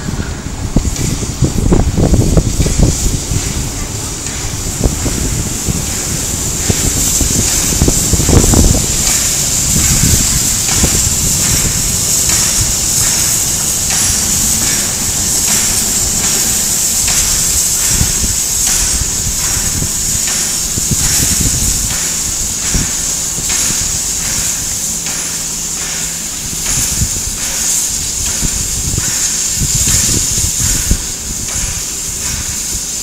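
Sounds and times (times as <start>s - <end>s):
wind gust on microphone: 0.0s - 24.7s, 28.1s - 32.9s
steam hissing: 0.0s - 33.0s
steam locomotive chuffing: 0.0s - 33.0s.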